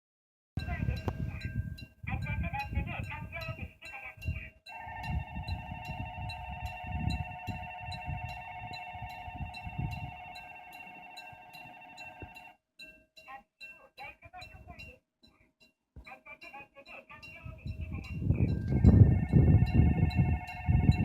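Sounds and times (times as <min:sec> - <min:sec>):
railroad crossing bell ringing: 0:00.6 - 0:14.9, 0:16.4 - 0:21.0.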